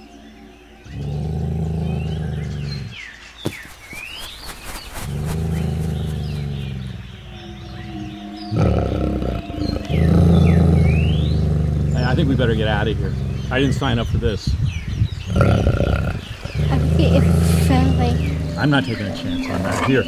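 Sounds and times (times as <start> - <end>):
birds chirping: 0.0 - 20.0
large animal roaring: 0.8 - 3.0, 5.3 - 20.0.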